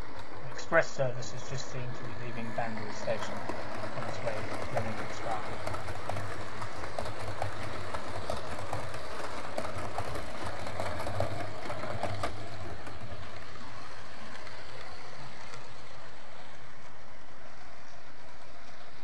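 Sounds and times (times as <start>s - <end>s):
model train motor hum: 0.0s - 19.0s
wheels clicking over rail joints: 0.0s - 19.0s.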